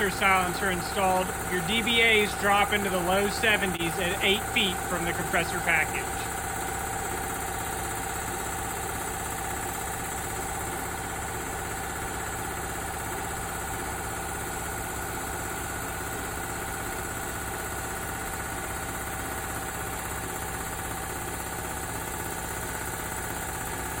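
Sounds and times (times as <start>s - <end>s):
air compressor humming: 0.0s - 24.0s.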